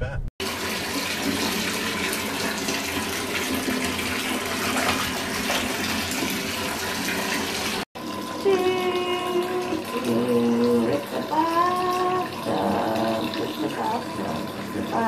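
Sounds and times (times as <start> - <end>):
shower water splashing in bathtub: 0.4 - 15.0.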